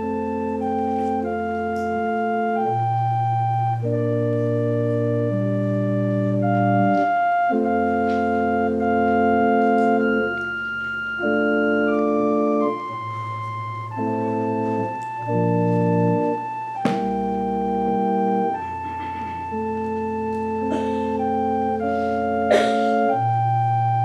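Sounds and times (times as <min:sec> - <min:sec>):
organ playing held chords: 0:00.0 - 0:24.0.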